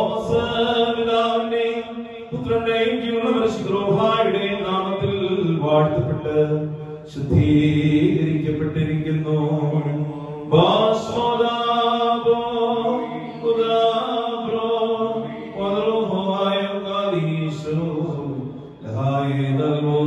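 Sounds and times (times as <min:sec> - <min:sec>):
priest chanting: 0:00.0 - 0:20.0.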